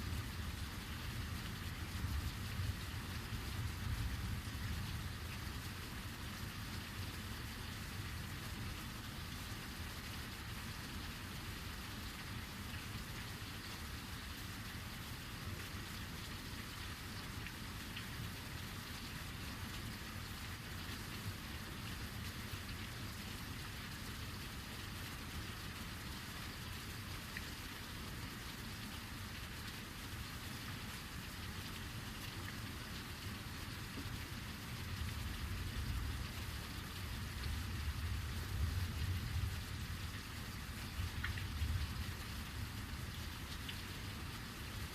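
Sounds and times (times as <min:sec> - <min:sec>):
heavy rain hissing: 0:00.0 - 0:44.9.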